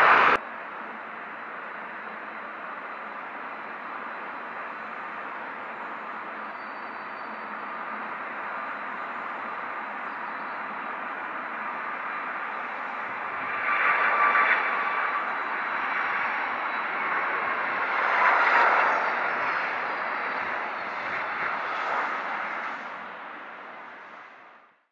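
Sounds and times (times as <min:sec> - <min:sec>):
jet engines passing overhead: 0:00.0 - 0:24.8.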